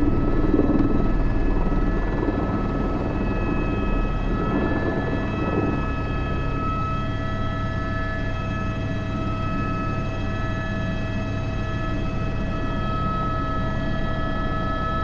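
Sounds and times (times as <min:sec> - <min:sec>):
helicopter rotor and engine noise: 0:00.0 - 0:15.0
high turbine whine: 0:00.0 - 0:15.0.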